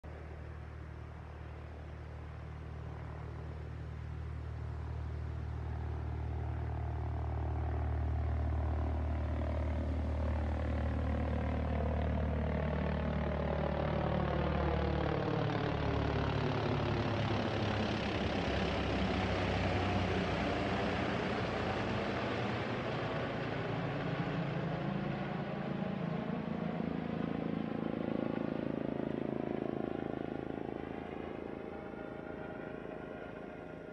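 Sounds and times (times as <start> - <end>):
helicopter flying overhead: 0.0 - 33.9.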